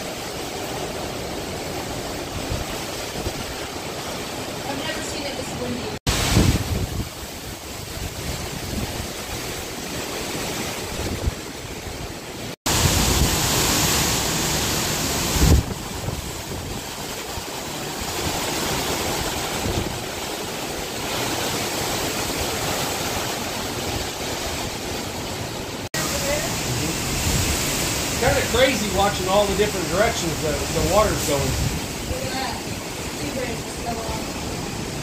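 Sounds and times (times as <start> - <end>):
strong wind gusts: 0.0 - 35.0
wind buffeting microphone: 1.2 - 12.1, 12.7 - 25.5, 26.1 - 35.0.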